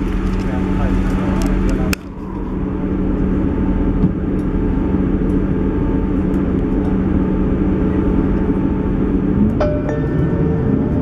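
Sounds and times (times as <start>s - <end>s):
train engine and running gear drone: 0.0s - 11.0s.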